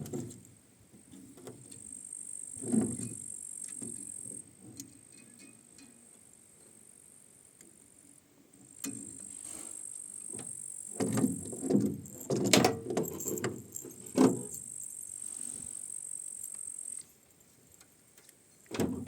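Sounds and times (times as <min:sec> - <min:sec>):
steady high hiss: 0:00.3 - 0:19.0.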